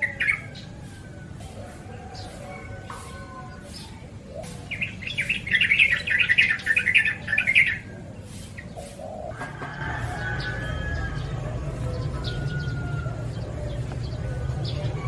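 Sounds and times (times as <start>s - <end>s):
bird chattering song: 0.0s - 15.0s.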